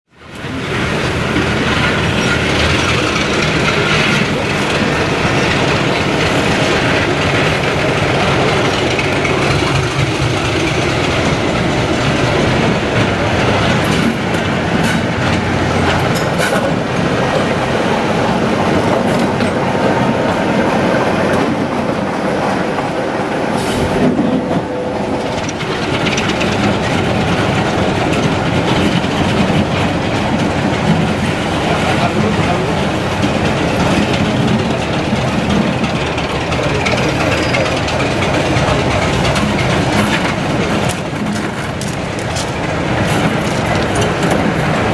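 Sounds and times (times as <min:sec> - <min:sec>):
diesel locomotive engine running: 0:00.1 - 0:44.9
wheels clicking over rail joints: 0:00.2 - 0:23.0, 0:23.6 - 0:44.9.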